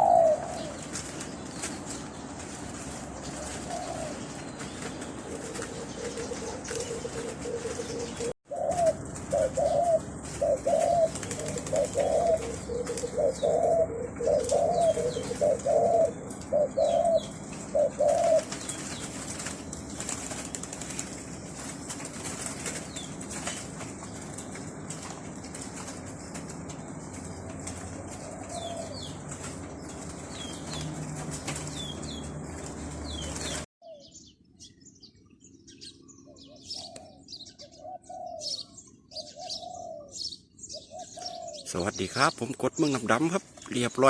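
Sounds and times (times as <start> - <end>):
doves cooing: 0.0 - 34.3, 35.7 - 44.0.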